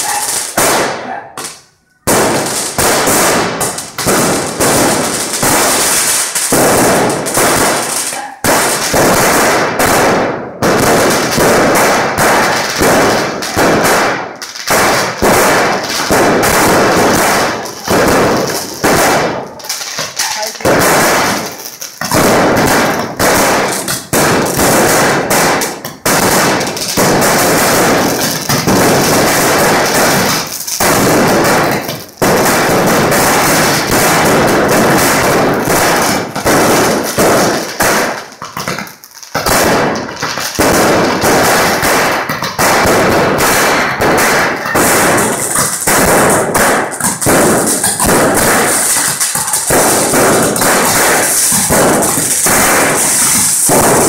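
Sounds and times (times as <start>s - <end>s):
fireworks banging: 0.0s - 54.0s.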